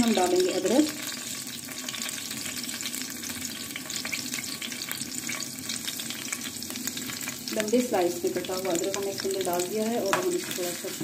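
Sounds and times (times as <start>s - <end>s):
ginger frying in hot oil: 0.0s - 11.0s.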